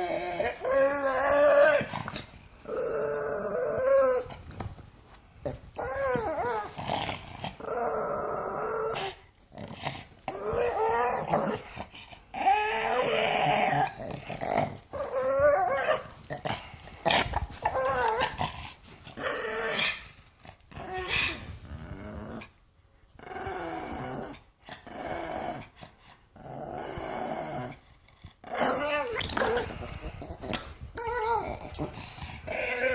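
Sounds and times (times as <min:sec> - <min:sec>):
dog growling: 0:00.0 - 0:04.4, 0:05.4 - 0:22.6, 0:23.2 - 0:32.9.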